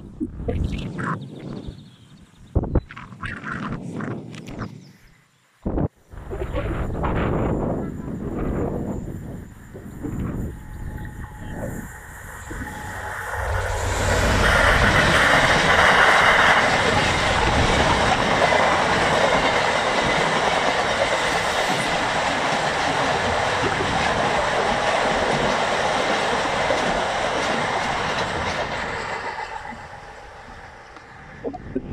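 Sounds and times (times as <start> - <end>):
diesel locomotive engine: 6.0 - 31.9
train wagons rumbling on rails: 6.1 - 31.9.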